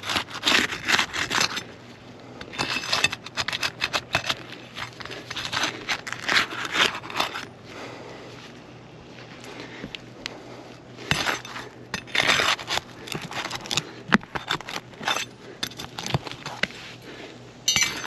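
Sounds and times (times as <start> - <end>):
tool scraping under roof shingles: 0.0 - 8.0, 9.5 - 18.0.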